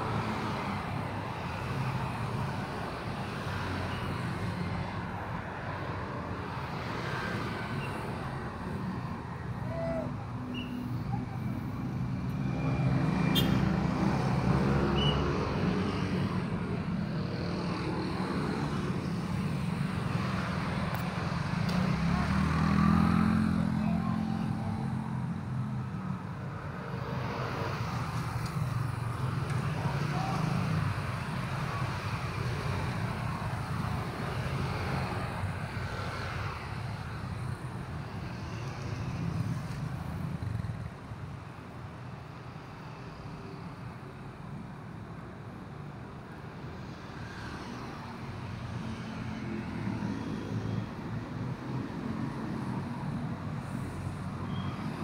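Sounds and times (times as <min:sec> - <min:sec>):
vehicle engines passing: 0:00.0 - 0:44.5, 0:45.4 - 0:55.0.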